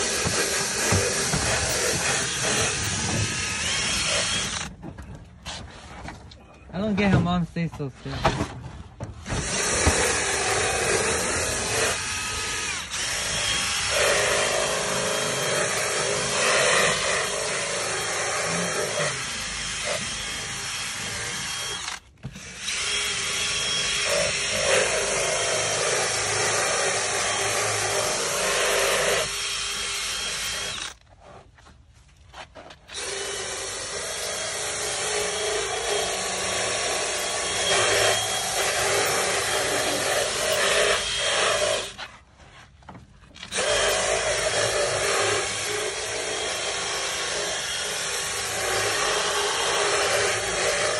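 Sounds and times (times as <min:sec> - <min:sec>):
drill brush scrubbing panel: 0:00.0 - 0:04.8, 0:09.2 - 0:31.4, 0:32.4 - 0:42.8, 0:43.4 - 0:50.9.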